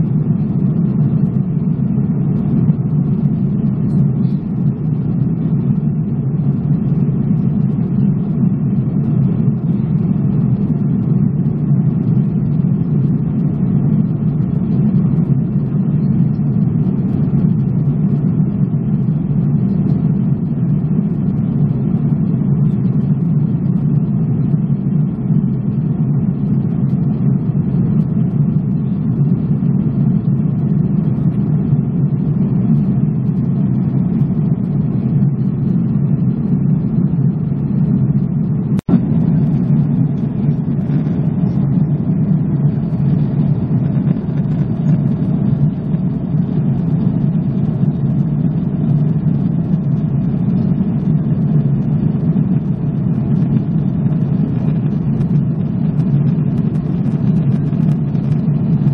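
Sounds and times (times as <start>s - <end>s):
airliner cabin engine roar: 0.0s - 58.9s.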